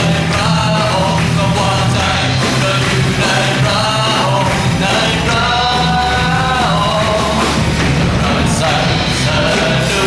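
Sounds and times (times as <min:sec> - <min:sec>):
voices singing: 0:00.0 - 0:10.0
worship band playing: 0:00.0 - 0:10.0.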